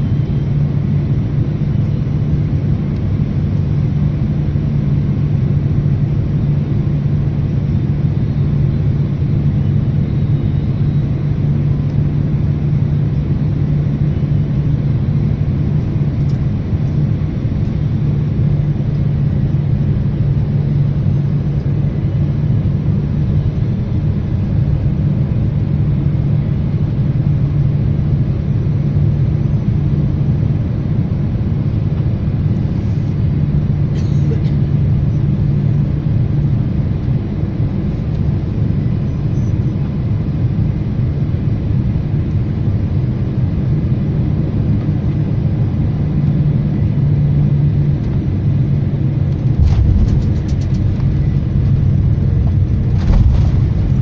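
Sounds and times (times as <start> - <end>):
airliner engine and airflow rumble: 0.0 - 54.0.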